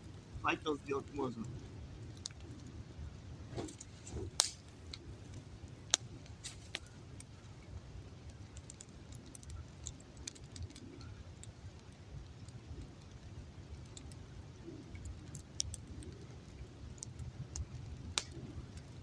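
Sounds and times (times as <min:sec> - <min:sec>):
campfire crackling: 0:00.0 - 0:19.0
low background rumble: 0:00.0 - 0:19.0
sharp pops from fire: 0:00.8 - 0:19.0.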